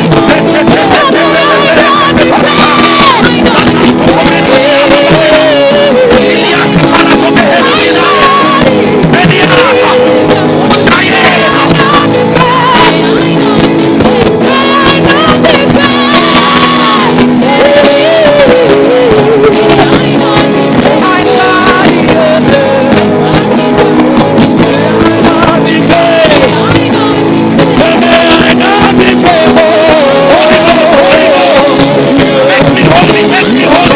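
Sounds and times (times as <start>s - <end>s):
keyboard chords: 0.0s - 33.9s
voices singing and crying out: 0.0s - 33.9s.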